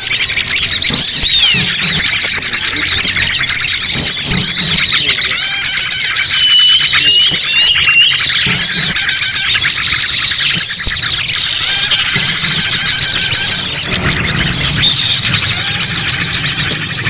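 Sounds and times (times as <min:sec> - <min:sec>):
chorus of small birds chirping: 0:00.0 - 0:17.0
whistled bird notes: 0:00.0 - 0:17.0.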